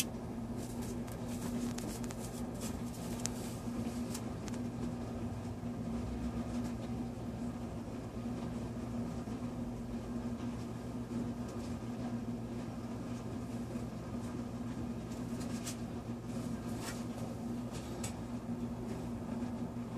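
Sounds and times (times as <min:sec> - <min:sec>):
low machine hum: 0:00.0 - 0:19.9.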